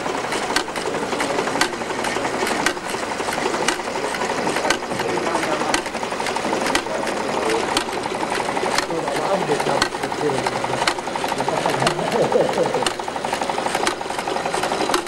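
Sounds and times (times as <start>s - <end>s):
small engine clattering: 0.0s - 15.0s.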